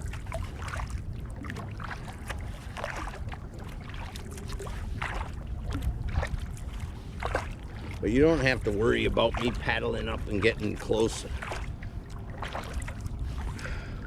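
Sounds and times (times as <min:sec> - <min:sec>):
paddle splashing in water: 0:00.0 - 0:14.0
steady low rumble: 0:00.0 - 0:14.0.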